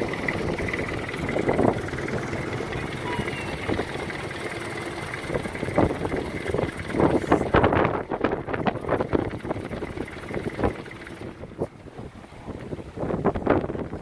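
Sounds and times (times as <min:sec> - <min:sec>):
wind buffeting the microphone: 0:00.0 - 0:04.3, 0:05.1 - 0:14.0
water splashing and lapping: 0:00.0 - 0:14.0.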